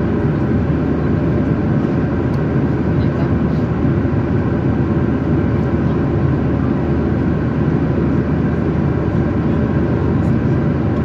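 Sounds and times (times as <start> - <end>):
jet cabin engine rush: 0.0 - 11.0.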